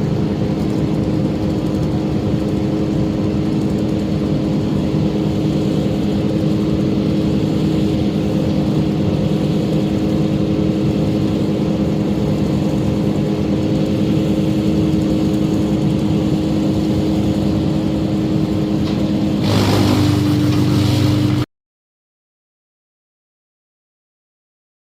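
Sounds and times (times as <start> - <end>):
heavy engine running steadily: 0.0 - 21.5.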